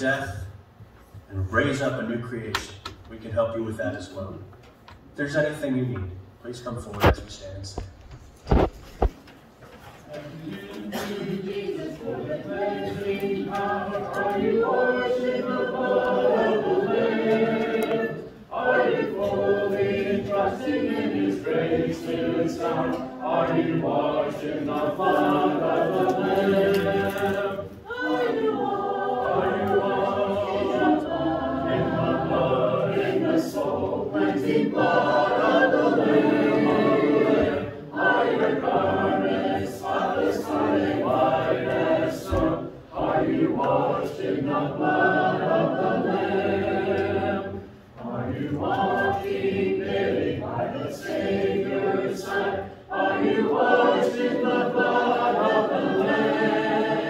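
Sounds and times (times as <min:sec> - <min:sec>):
congregation singing a hymn: 0:08.5 - 0:09.1, 0:09.8 - 0:57.0.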